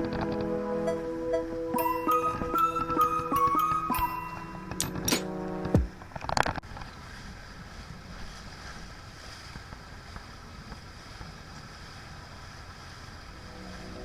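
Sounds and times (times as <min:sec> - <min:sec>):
wind and water noise: 0:00.0 - 0:14.0.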